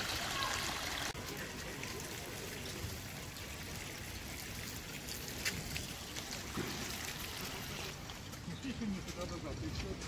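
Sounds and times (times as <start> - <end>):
running water rushing: 0.0 - 8.4.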